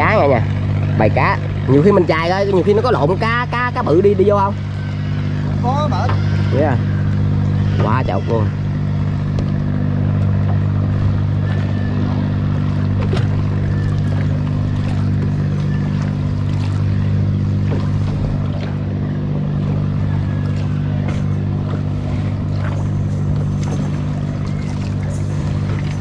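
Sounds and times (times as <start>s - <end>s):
motorboat engine droning: 0.0s - 26.0s.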